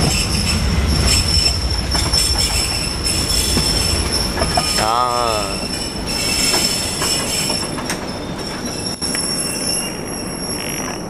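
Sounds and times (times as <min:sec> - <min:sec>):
rumble of rolling train: 0:00.0 - 0:11.0
train brakes squealing: 0:00.0 - 0:11.0.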